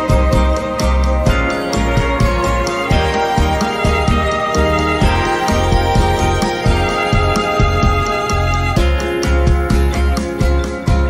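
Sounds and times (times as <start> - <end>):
music with pulsing beat: 0.0 - 11.0.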